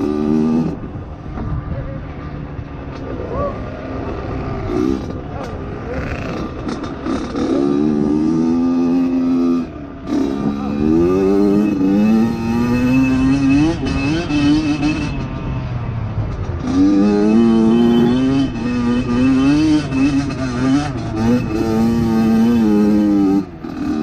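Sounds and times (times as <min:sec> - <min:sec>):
dirt bike engine revving: 0:03.8 - 0:15.5, 0:16.3 - 0:24.0.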